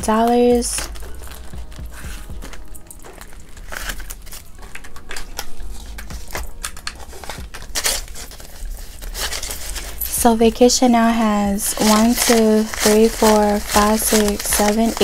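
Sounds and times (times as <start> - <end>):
banknotes rustling: 0.0 - 15.0
plastic pouch clicks and crackles: 0.2 - 10.0, 11.7 - 15.0.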